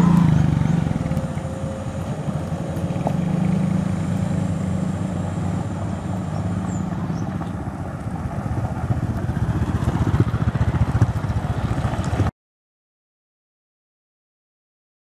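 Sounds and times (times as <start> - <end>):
motorcycle passing: 0.0 - 12.3
pickup truck driving past: 0.0 - 12.3.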